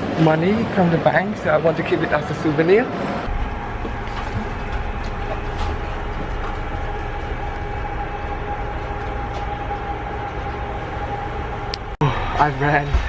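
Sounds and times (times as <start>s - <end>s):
passenger train rumble: 0.0s - 13.0s
thin steady whine: 0.0s - 13.0s.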